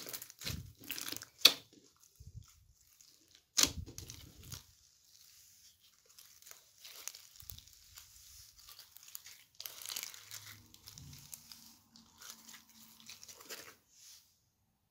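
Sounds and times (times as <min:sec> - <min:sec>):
slime crackling and popping: 0:00.0 - 0:08.0, 0:08.6 - 0:13.8.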